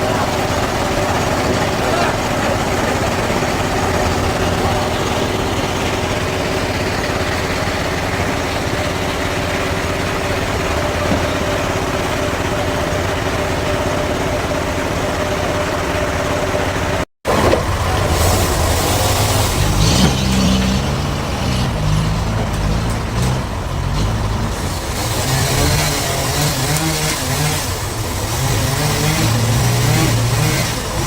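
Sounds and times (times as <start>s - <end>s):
sawmill machinery engine running: 0.0s - 31.0s.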